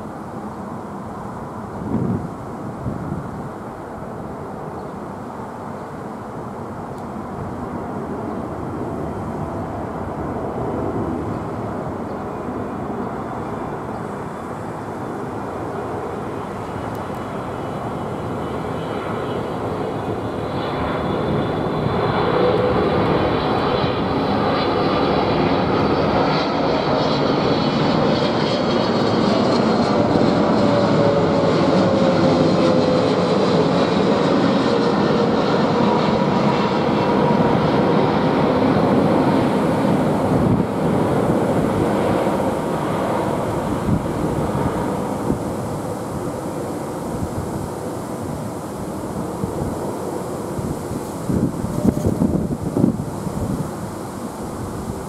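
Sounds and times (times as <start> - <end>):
jet engine rumble: 0.0 - 55.0.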